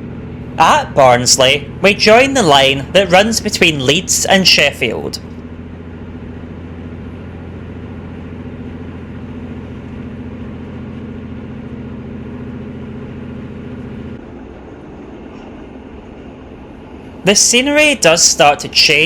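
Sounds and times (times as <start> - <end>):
diesel engine drone: 0.0 - 19.0
rail noise: 0.0 - 19.0.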